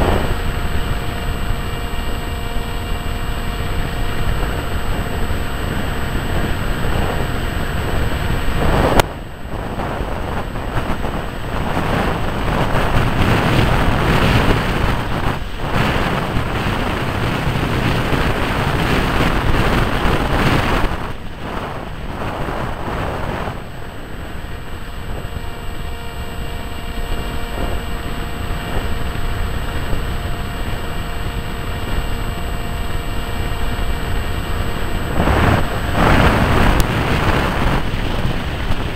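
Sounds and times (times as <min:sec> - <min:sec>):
electric motor and propeller whine: 0:00.0 - 0:38.9
wind on microphone: 0:00.0 - 0:38.9.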